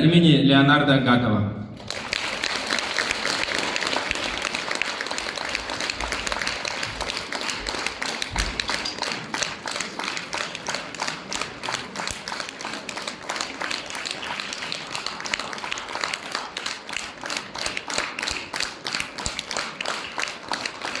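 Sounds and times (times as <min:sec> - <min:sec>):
audience applauding: 0:01.8 - 0:21.0.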